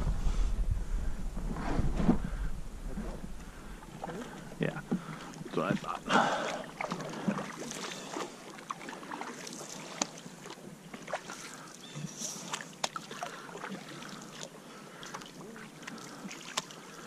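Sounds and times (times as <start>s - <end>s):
canoe paddles pulling through water: 1.3s - 17.0s.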